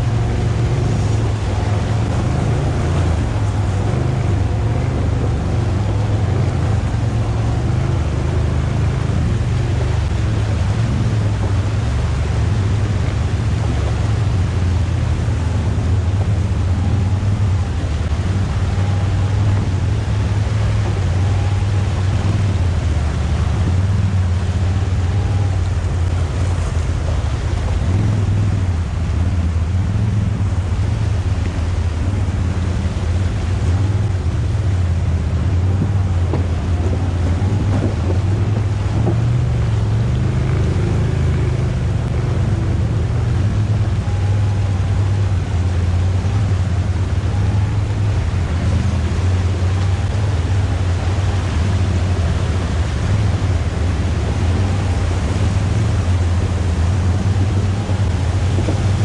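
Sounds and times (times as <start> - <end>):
atv engine droning: 0.0 - 59.0
creek water rushing: 0.0 - 59.0
wind on microphone: 0.0 - 59.0.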